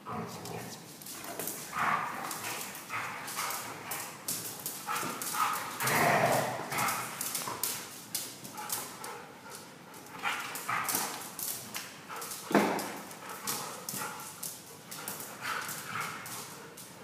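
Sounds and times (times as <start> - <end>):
dogs play growling: 0.0 - 17.0.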